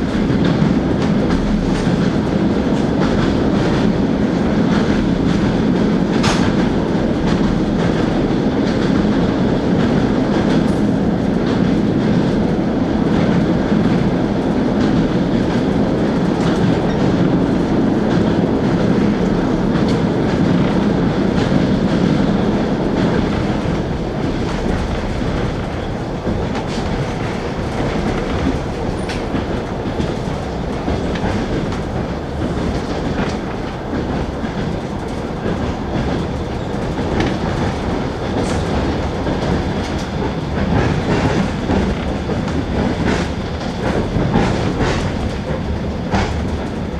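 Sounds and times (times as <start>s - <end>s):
train rumbling inside carriage: 0.0s - 46.9s.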